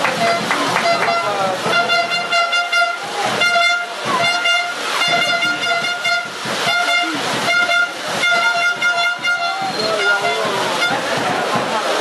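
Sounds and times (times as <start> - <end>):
horn blasts: 0.0 - 11.3
crowd shouting: 0.0 - 12.0.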